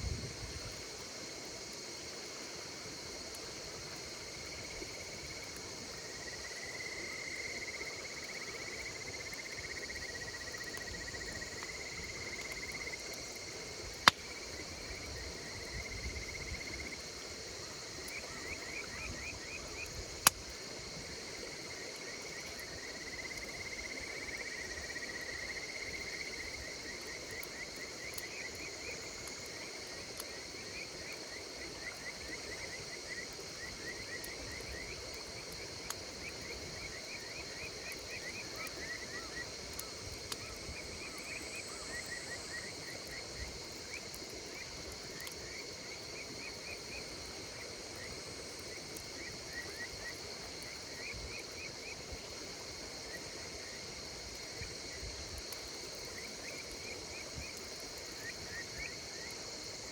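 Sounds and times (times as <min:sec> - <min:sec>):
insects chirping: 0:00.0 - 0:59.9
campfire crackling and popping: 0:00.1 - 0:59.9.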